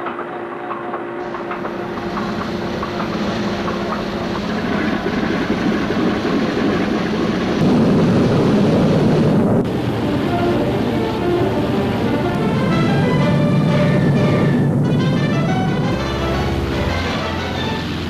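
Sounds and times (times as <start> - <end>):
propeller aircraft engines rumbling: 1.2 - 18.0.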